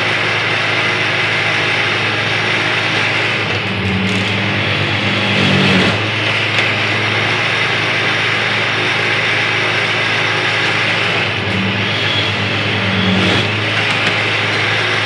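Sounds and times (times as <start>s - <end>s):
machine engine humming: 0.0s - 15.0s.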